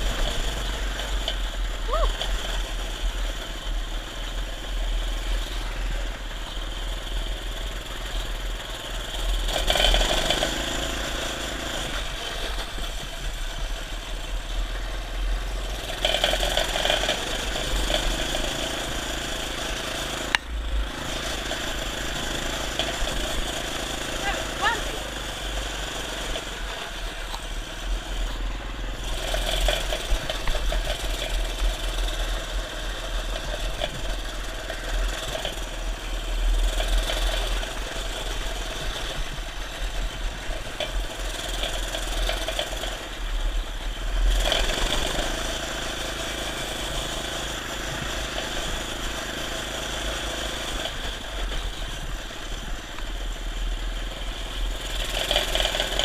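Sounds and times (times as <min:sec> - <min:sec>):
minibike engine running: 0:00.0 - 0:56.0.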